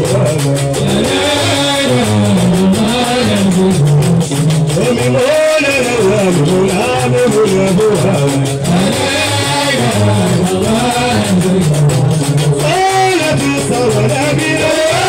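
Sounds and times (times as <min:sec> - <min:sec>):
deep plucked bass lute: 0:00.0 - 0:15.0
man singing: 0:00.0 - 0:15.0.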